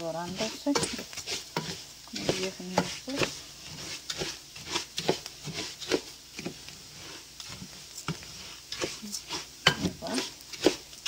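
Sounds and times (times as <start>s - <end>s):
faint sizzle: 0.0s - 11.0s
spoon scraping pot: 0.0s - 11.0s.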